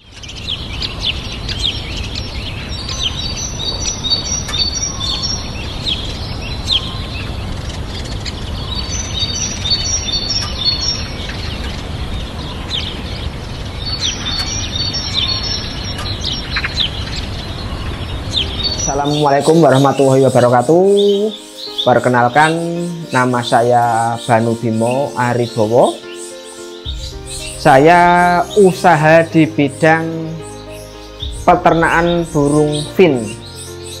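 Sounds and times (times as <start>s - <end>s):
finches chirping and singing: 0.0s - 34.0s.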